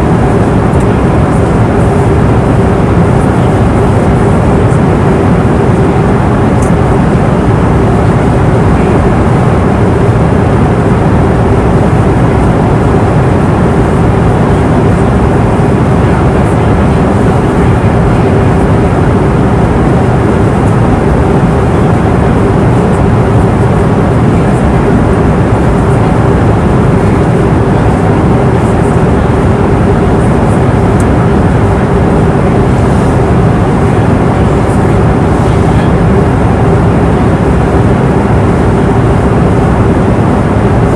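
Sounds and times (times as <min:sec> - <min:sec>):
airliner cabin noise: 0:00.0 - 0:40.9
steady hum: 0:00.0 - 0:40.9.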